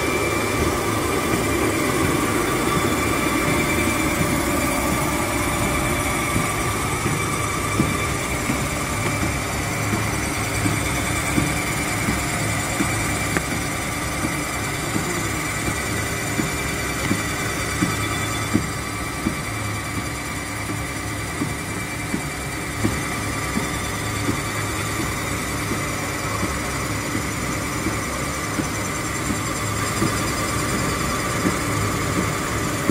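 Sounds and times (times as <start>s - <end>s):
high machine whine: 0.0s - 32.9s
production machinery humming: 0.0s - 32.9s.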